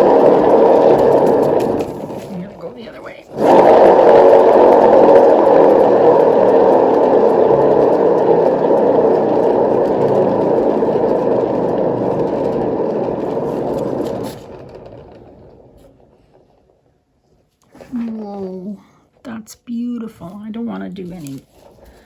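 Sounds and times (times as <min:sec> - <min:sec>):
spinner mechanical whir: 0:00.0 - 0:19.3.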